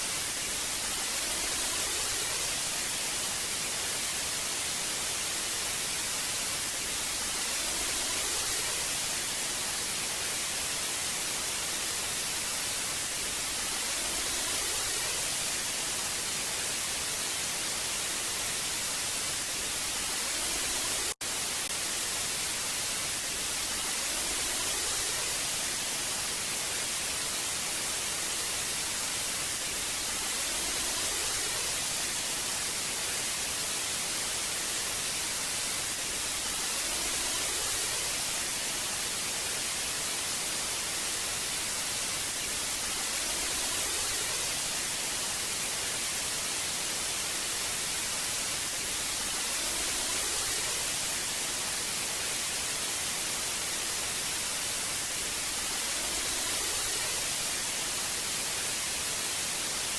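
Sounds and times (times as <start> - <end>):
analog tv static hiss: 0.0 - 59.9.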